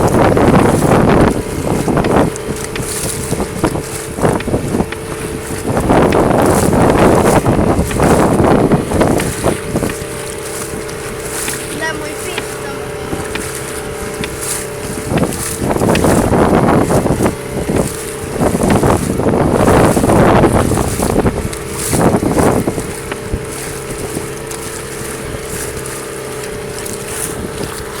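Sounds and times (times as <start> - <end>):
boat engine humming: 0.0 - 28.0
rushing water: 0.0 - 28.0
rushing wind: 0.0 - 28.0.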